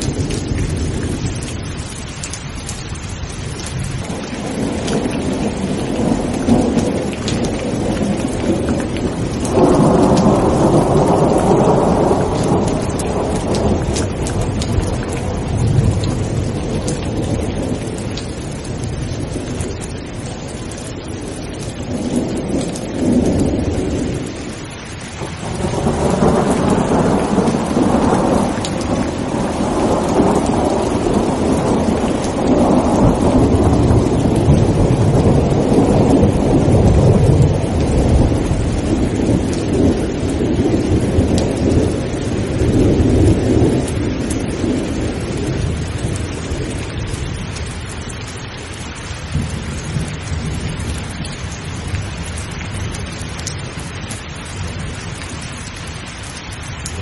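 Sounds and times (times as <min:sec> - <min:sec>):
rolling thunder: 0:00.0 - 0:02.1, 0:03.0 - 0:47.9, 0:49.3 - 0:55.5
heavy rain: 0:00.0 - 0:57.0.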